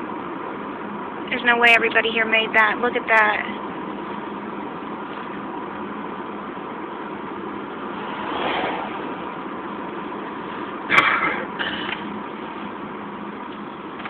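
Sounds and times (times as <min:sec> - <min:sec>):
road and engine noise in car: 0:00.0 - 0:14.0.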